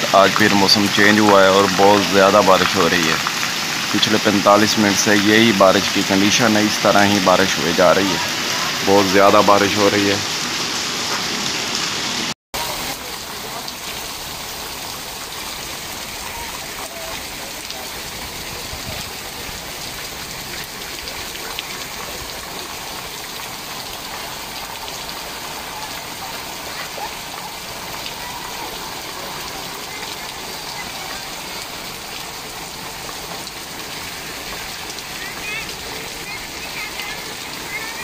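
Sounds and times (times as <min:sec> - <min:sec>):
heavy rain pouring on puddles: 0:00.0 - 0:38.0.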